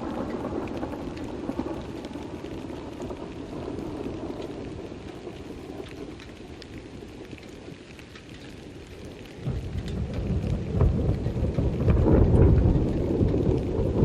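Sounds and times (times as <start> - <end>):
raindrops ticking: 0.0 - 14.0
thunder rumbling: 0.0 - 14.0.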